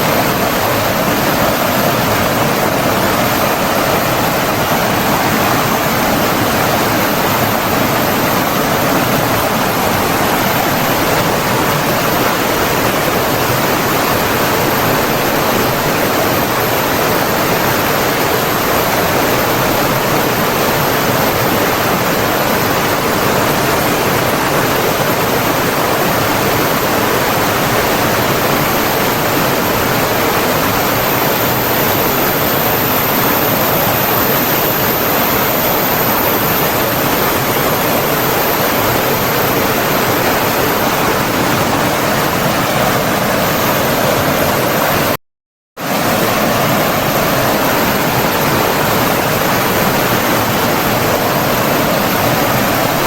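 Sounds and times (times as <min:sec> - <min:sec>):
rushing flowing water: 0:00.0 - 0:45.2, 0:45.8 - 0:53.0.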